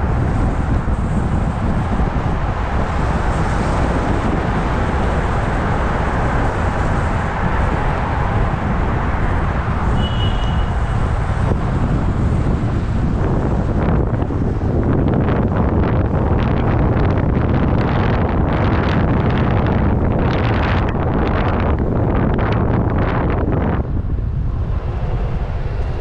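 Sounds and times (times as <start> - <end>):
road noise from moving car: 0.0 - 26.0.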